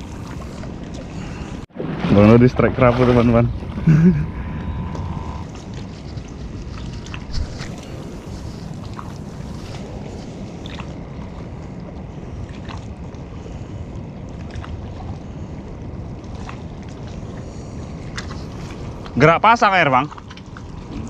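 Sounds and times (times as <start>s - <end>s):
wind on camera microphone: 0.0s - 19.2s.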